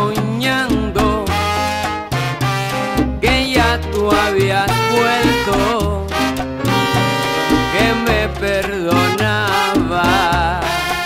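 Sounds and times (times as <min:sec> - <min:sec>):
salsa band music: 0:00.0 - 0:11.0.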